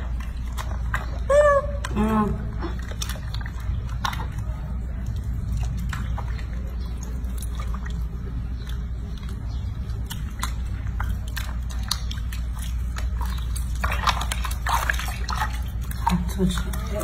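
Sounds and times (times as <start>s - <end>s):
small splashes and drips: 0.0s - 17.0s
water sloshing in a sink: 0.0s - 17.0s.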